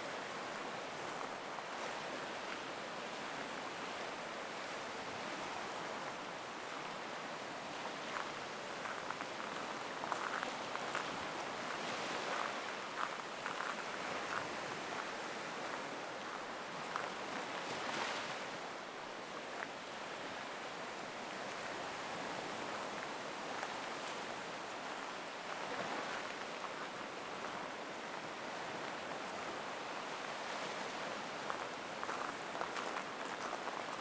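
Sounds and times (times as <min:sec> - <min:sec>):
waves washing on shore: 0:00.0 - 0:34.0.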